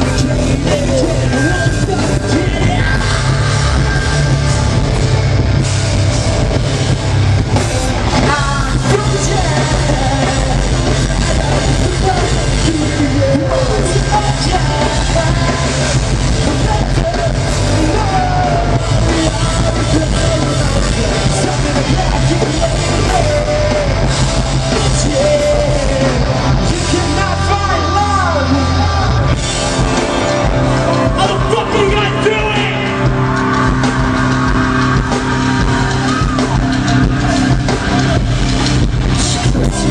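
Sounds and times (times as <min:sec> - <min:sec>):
person singing: 0:00.0 - 0:04.8, 0:08.1 - 0:39.9
live rock band playing: 0:00.0 - 0:39.9.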